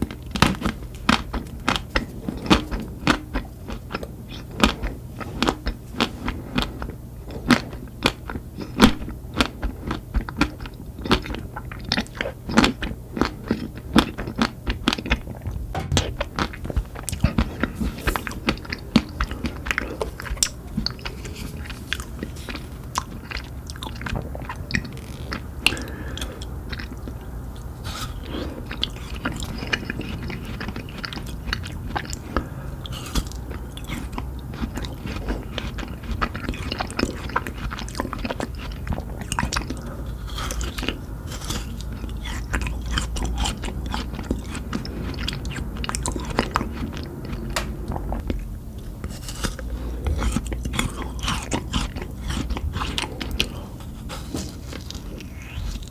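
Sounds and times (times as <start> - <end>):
biting and chewing ice cream: 0.0 - 55.9.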